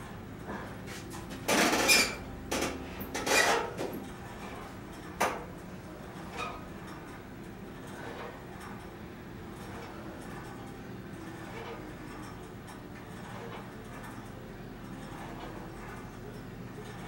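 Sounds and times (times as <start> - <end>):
gym cable machine clanking: 1.5 - 9.0, 9.6 - 17.0.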